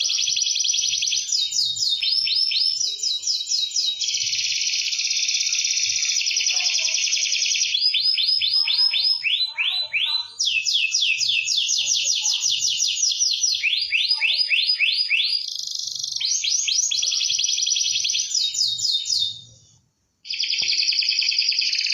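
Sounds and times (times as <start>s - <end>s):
canary singing trills: 0.0s - 19.6s, 20.2s - 21.9s.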